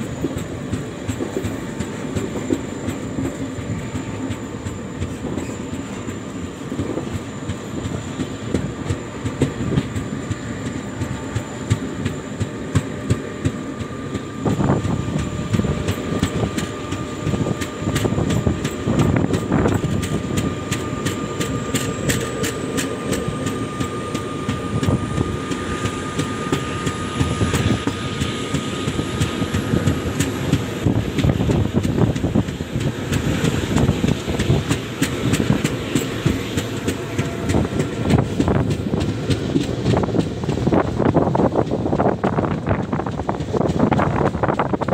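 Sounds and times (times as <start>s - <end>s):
track clicks and clacks: 0.0s - 44.9s
train wheels rumbling on rails: 0.0s - 44.9s.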